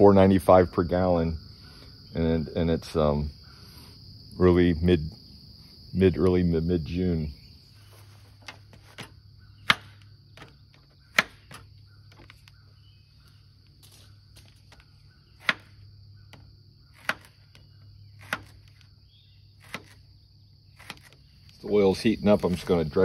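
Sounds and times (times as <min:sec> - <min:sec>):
insect chirring: 0:00.0 - 0:23.0.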